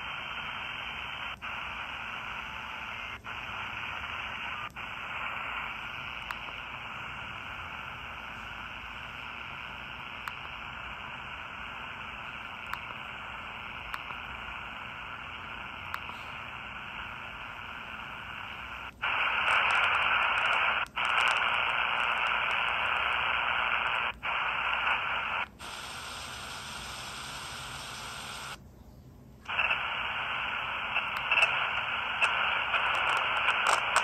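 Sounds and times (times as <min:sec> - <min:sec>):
radio static hiss: 0:00.0 - 0:28.6, 0:29.4 - 0:34.0.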